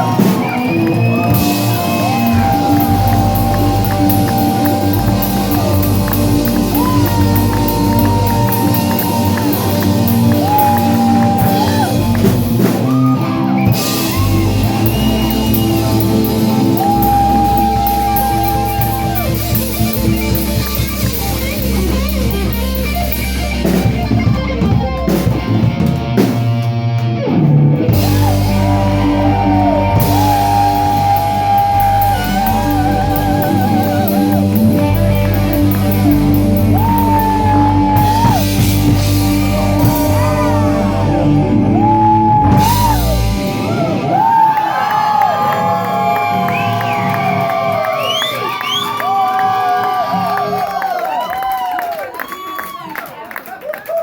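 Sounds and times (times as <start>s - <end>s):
electric guitar bent notes: 0.0s - 44.6s
rock band playing: 0.0s - 52.1s.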